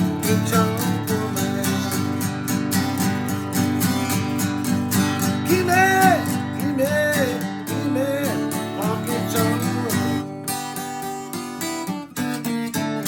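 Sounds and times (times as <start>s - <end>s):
acoustic guitar strumming: 0.0s - 13.0s
sliding guitar lead line: 0.0s - 13.0s.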